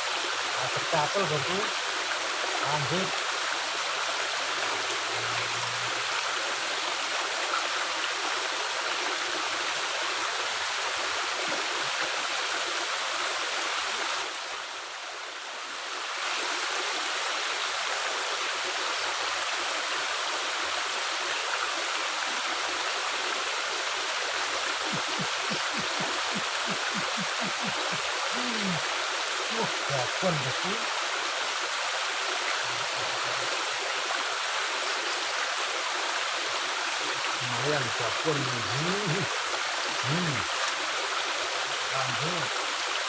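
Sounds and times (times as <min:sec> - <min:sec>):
water rushing through culvert: 0:00.0 - 0:43.0.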